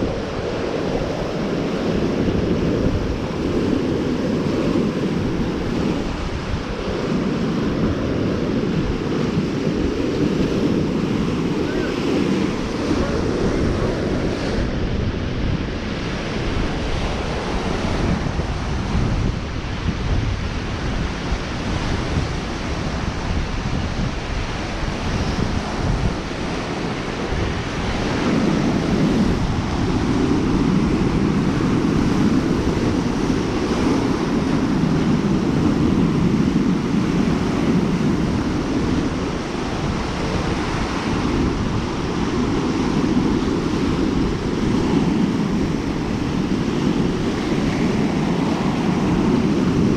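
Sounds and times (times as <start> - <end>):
waves washing onto shore: 0.0 - 49.9
wind buffeting microphone: 0.0 - 49.9.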